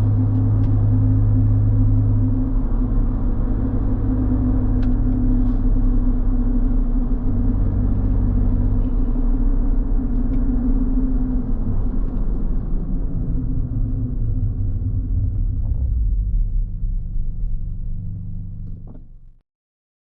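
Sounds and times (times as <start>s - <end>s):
car engine running: 0.0s - 19.4s.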